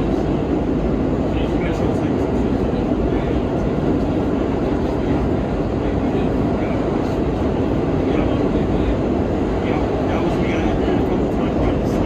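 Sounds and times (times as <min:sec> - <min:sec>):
subway car wheels rumbling: 0:00.0 - 0:12.0.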